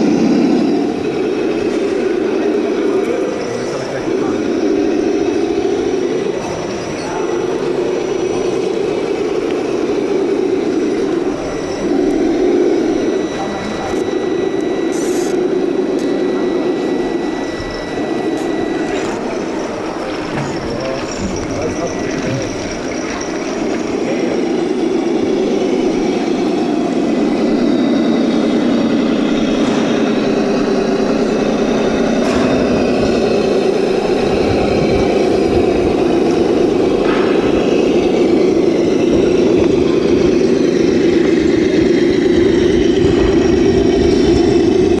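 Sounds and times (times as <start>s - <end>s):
toy car electric motor whirring: 0.0s - 45.0s.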